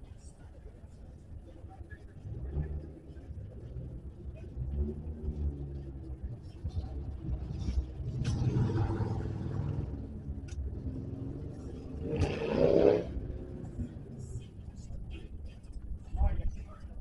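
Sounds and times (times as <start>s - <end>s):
engine rumbling and revving: 1.8s - 15.8s.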